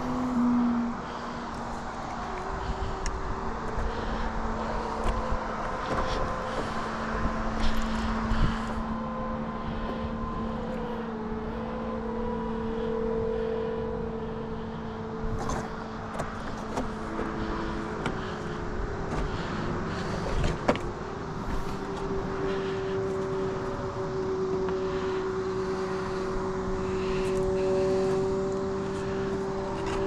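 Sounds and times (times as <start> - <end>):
distant motor drone: 0.0 - 30.0.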